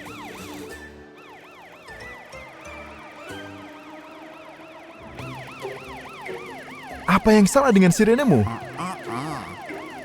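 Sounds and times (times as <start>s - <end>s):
cartoon police siren wailing: 0.1s - 10.0s
background music: 1.8s - 10.0s.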